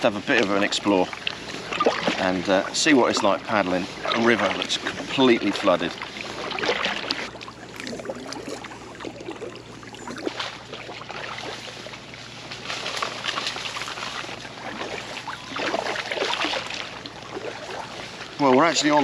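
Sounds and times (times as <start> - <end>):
kayak paddle splashing water: 0.0 - 19.0.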